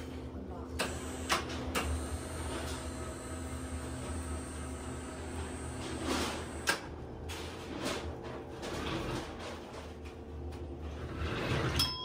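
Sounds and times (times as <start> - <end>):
electric hoist motor humming: 0.0 - 11.9.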